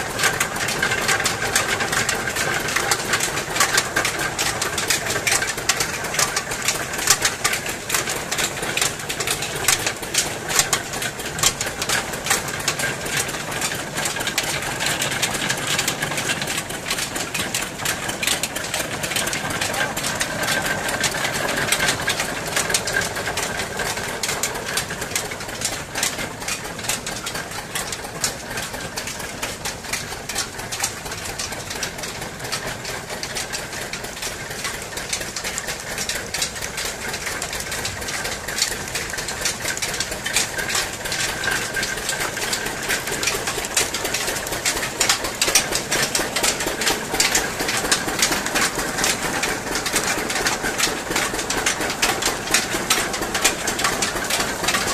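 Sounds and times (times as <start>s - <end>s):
rollers crackling and clicking: 0.0s - 54.9s
sugarcane crushing mill running: 0.0s - 54.9s.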